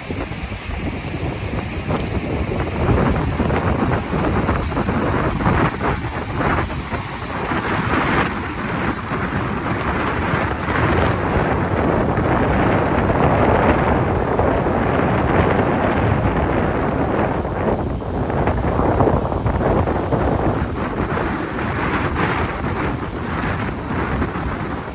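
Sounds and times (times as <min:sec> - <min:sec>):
surf waves crashing: 0:00.0 - 0:24.9
wind buffeting microphone: 0:00.0 - 0:24.9.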